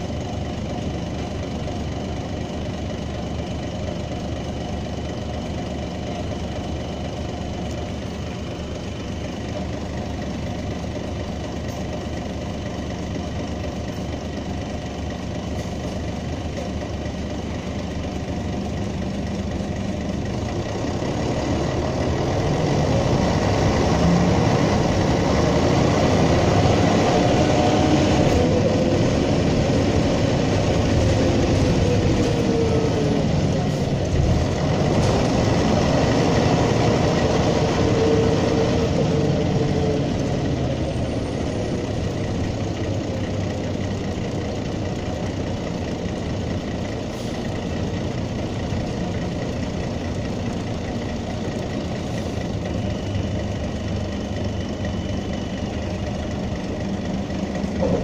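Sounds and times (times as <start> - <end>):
diesel bus engine idling: 0.0 - 58.0.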